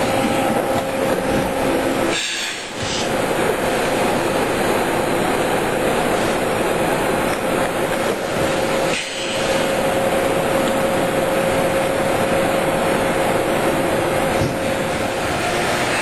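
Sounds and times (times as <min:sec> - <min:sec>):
factory machinery running: 0:00.0 - 0:16.0.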